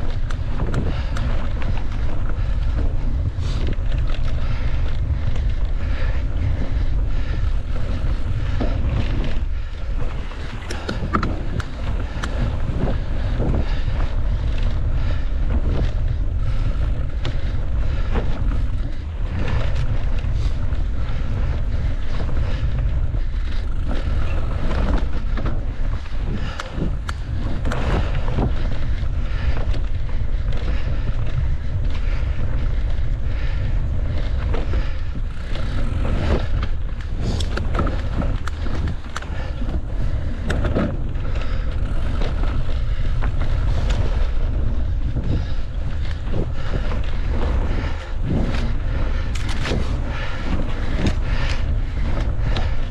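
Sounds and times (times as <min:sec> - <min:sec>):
bike rattling over rough trail: 0:00.0 - 0:52.9
wind buffeting microphone: 0:00.0 - 0:52.9.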